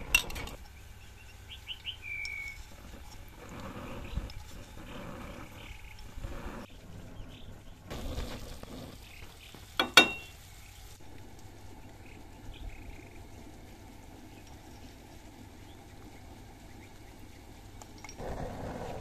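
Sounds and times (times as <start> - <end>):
rice bubbling at a boil: 0.0 - 19.0.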